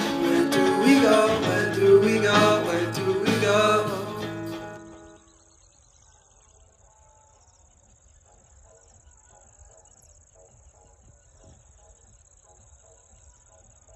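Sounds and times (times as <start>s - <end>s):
insects chirring: 0.0s - 13.9s.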